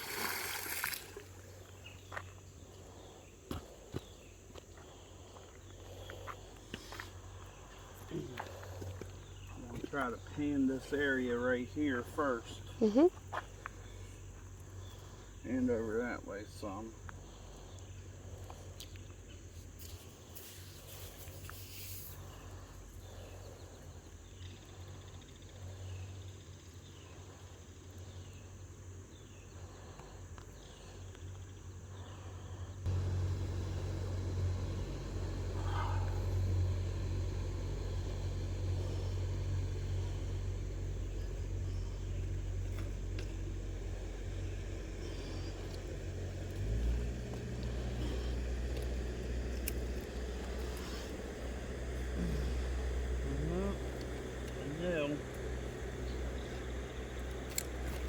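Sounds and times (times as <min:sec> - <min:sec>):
motor engine hum: 0:00.0 - 0:20.3, 0:20.9 - 0:58.0.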